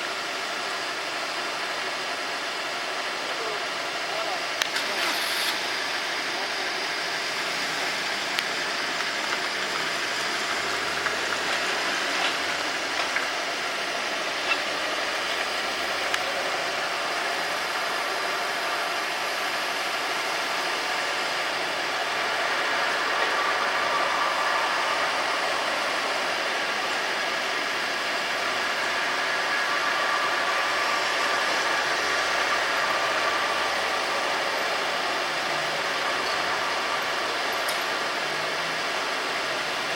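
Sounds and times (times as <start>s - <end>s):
street traffic noise: 0.0s - 39.9s
vehicle engine running: 7.4s - 39.9s.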